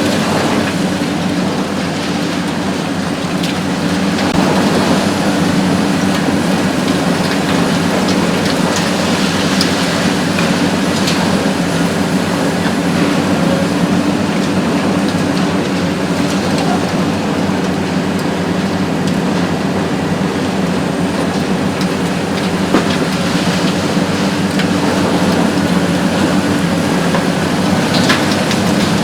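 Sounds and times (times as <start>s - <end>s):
concrete rubble crackling: 0.0s - 29.0s
excavator engine hum: 0.0s - 29.0s.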